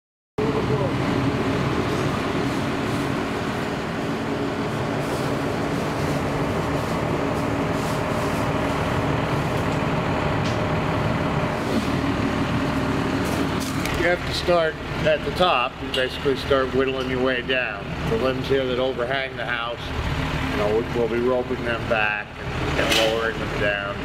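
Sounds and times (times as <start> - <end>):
engine running steadily: 0.4 - 24.0.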